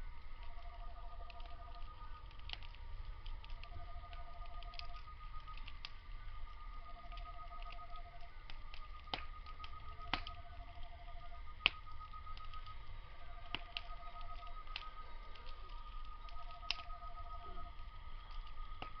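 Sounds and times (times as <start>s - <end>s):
insect pulsed trill: 0.0s - 19.0s
insect steady high trill: 0.0s - 19.0s
wood fire crackling: 0.0s - 19.0s.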